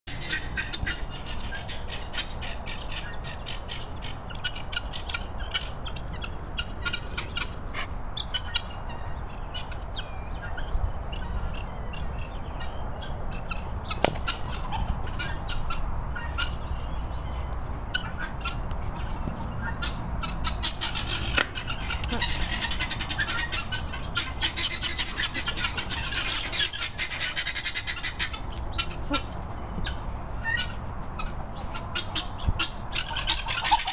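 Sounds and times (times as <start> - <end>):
farmyard birds squawking: 0.1 - 33.9
steady low rumble: 0.4 - 33.6.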